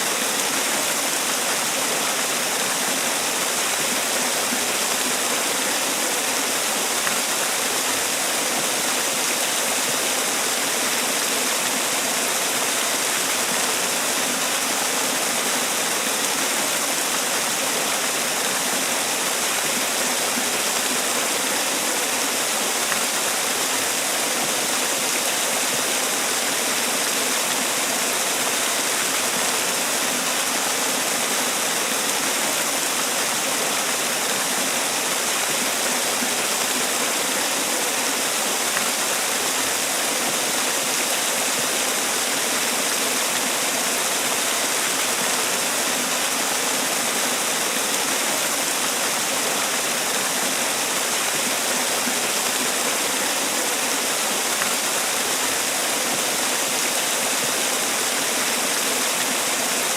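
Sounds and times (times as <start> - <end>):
waterfall splashing: 0.0 - 59.9.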